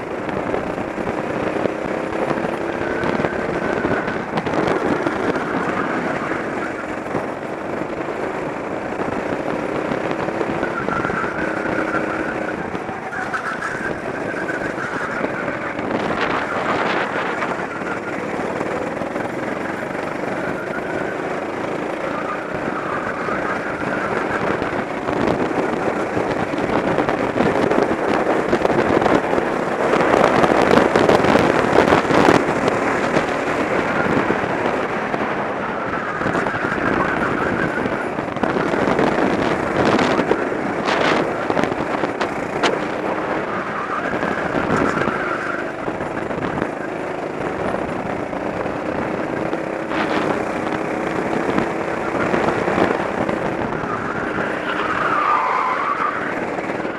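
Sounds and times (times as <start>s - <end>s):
go-kart engine running: 0.0s - 56.9s
wind rushing over microphone: 0.0s - 56.9s.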